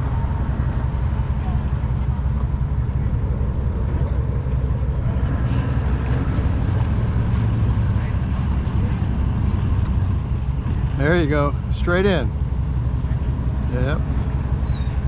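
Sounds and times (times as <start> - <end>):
boat motor rumbling: 0.0 - 15.0.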